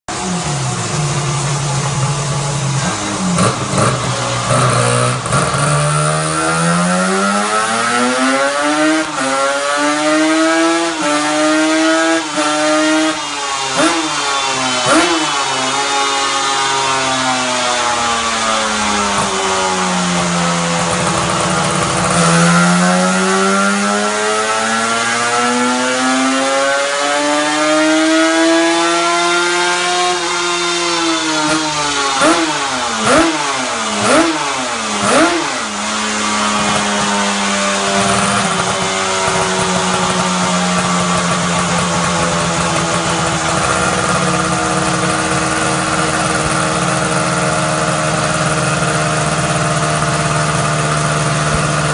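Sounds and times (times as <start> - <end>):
two-stroke motorcycle engine revving: 0.1 - 51.9.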